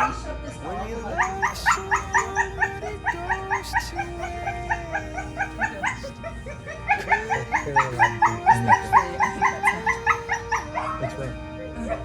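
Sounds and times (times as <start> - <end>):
slow song: 0.0 - 12.0.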